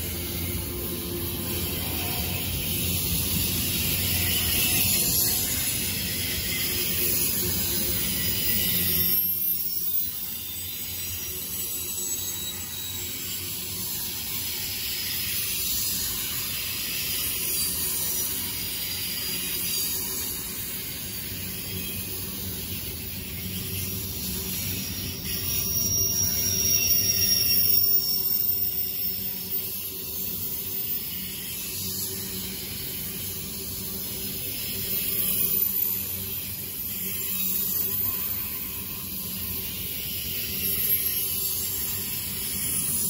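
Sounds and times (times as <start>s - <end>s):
hiss: 0.0s - 43.0s
steel wheels rushing on rail: 0.0s - 43.0s.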